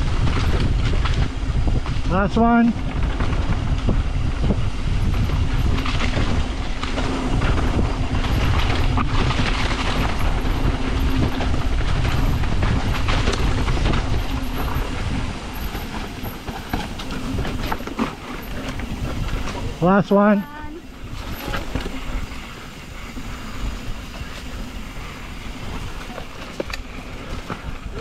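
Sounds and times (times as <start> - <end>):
wind and tyre noise: 0.0 - 28.0.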